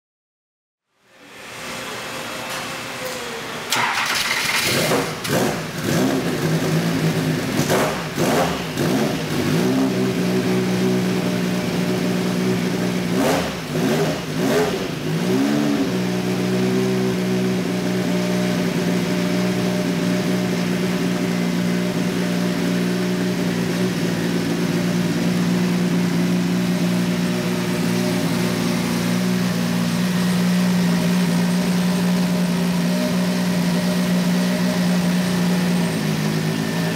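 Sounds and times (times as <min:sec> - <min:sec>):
race car engine starting and revving: 0:03.2 - 0:36.9
race car engine idling: 0:04.7 - 0:15.3, 0:15.9 - 0:36.9.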